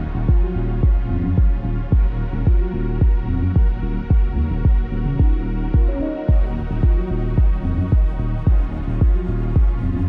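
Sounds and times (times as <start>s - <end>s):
music with thumping beat: 0.0s - 10.0s.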